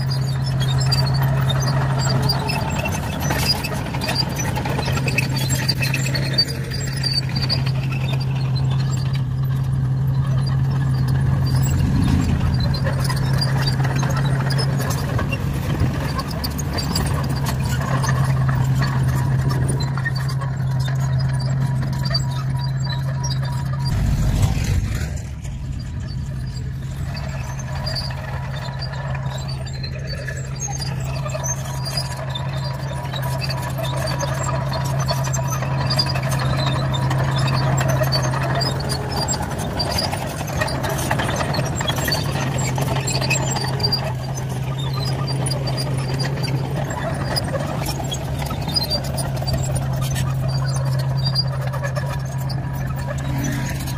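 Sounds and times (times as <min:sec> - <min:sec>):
bulldozer diesel engine droning: 0:00.0 - 0:53.9
tracks crunching asphalt: 0:00.0 - 0:53.9.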